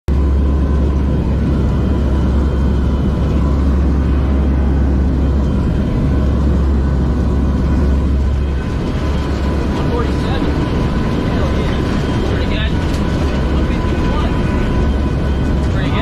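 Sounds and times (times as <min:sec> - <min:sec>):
aircraft engines droning: 0:00.1 - 0:16.0.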